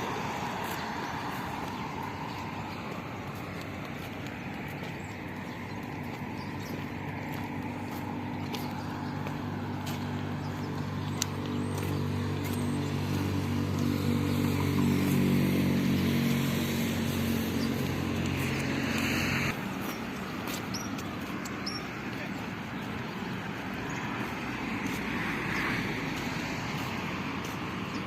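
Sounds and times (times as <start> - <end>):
road and outdoor noise: 0.0 - 28.0
vehicle engine humming: 0.0 - 28.0.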